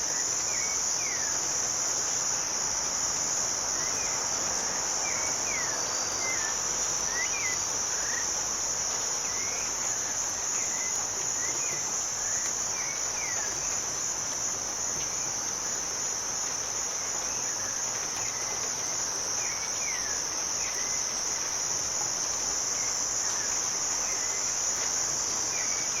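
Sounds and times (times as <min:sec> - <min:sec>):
crickets chirping: 0:00.0 - 0:26.0
rain hiss: 0:00.0 - 0:26.0.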